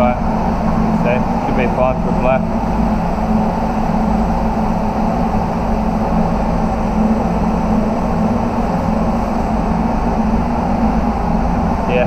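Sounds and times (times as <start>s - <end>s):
constant low hum: 0.0s - 12.0s
ventilation fans rushing air: 0.0s - 12.0s.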